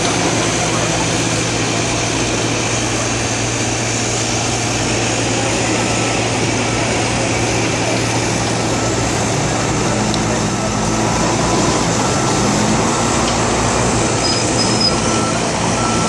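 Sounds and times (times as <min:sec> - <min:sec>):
heavy diesel engines running: 0:00.0 - 0:16.0.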